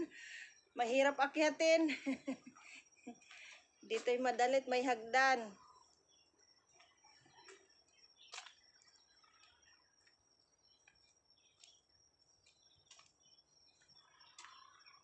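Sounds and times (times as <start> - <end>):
faint bird chirps: 0.0 - 15.0
high-pitched insect trill: 0.0 - 15.0.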